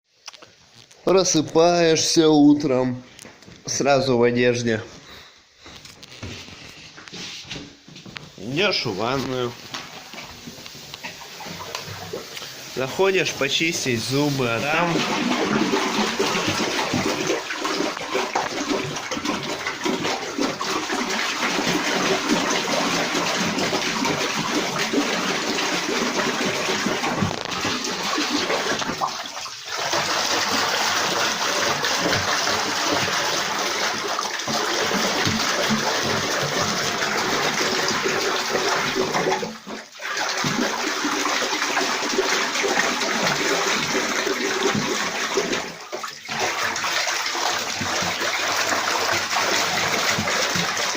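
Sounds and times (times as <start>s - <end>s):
water running into bathtub: 5.6s - 50.9s.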